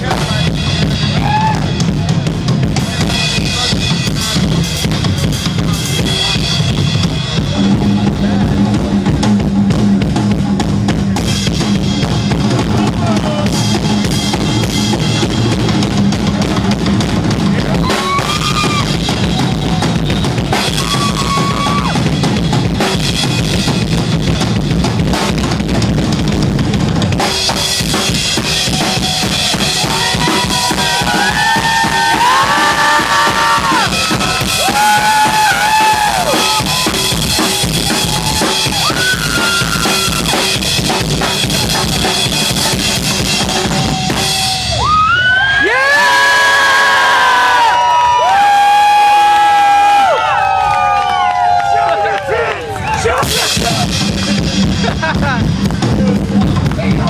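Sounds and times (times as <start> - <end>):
rock drum kit solo: 0.0 - 50.8, 53.2 - 57.0.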